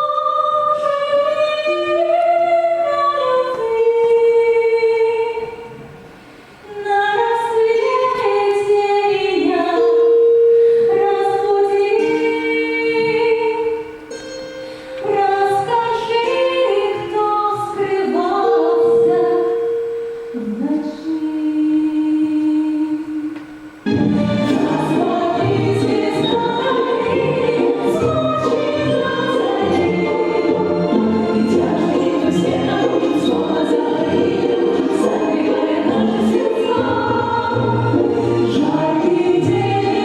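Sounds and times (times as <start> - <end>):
women singing held notes: 0.0 - 40.0.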